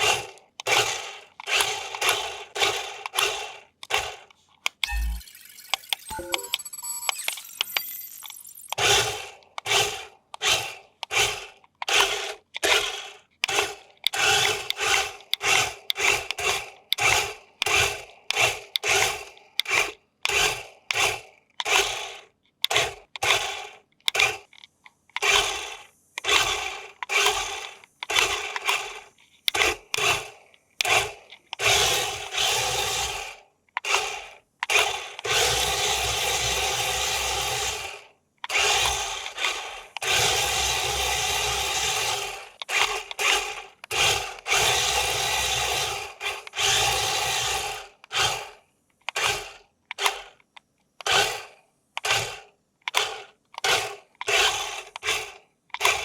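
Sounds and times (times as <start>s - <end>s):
toy motor and gears whirring: 0.0s - 56.0s.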